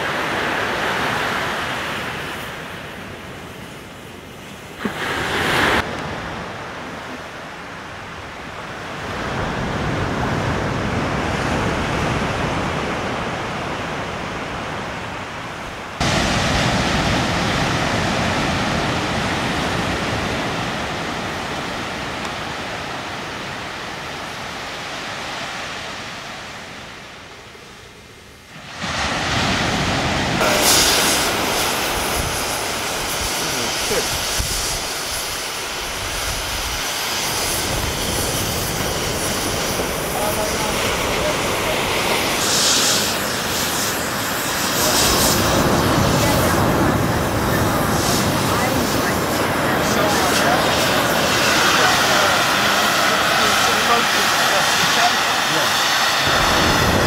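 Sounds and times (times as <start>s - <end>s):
rushing surf on a beach: 0.0s - 57.0s.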